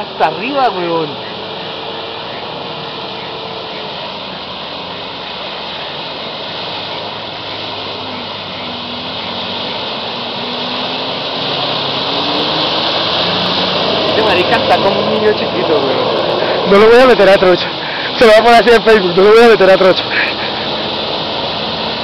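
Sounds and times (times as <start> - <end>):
suv engines running: 0.0 - 22.0
water sloshing: 0.0 - 22.0.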